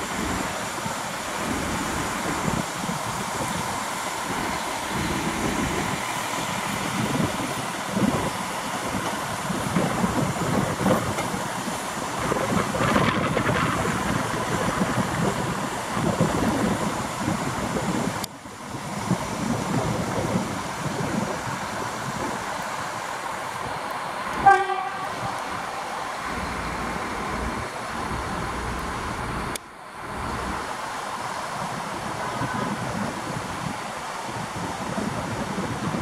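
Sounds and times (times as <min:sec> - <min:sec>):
train wheels rumbling on rails: 0:00.0 - 0:36.0
wind buffeting microphone: 0:00.0 - 0:36.0.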